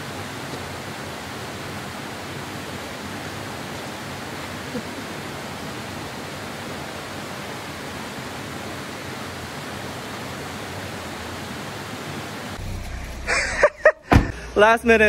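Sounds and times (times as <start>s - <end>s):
running water rushing: 0.0s - 12.6s.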